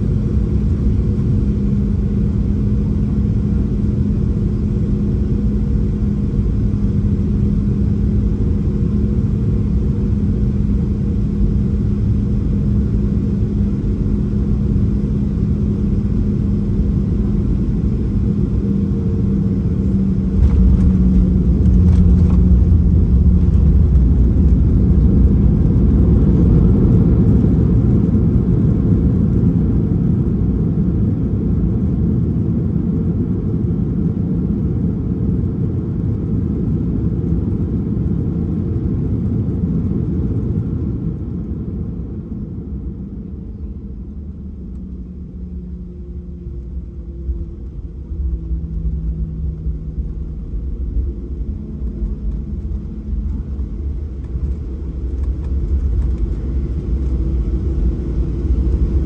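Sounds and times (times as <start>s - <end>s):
jet engine hum: 0.0s - 59.0s
low rumble on runway: 0.0s - 59.0s.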